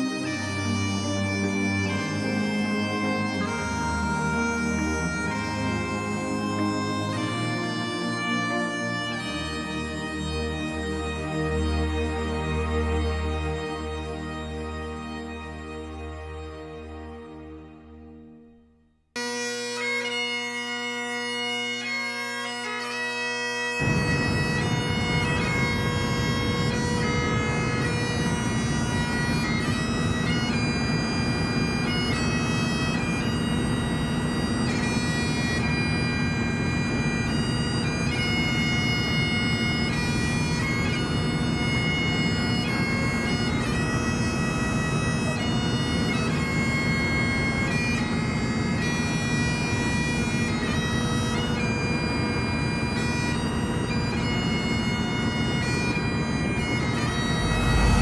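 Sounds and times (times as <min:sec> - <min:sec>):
bagpipe tune over drone: 0:00.0 - 0:58.0.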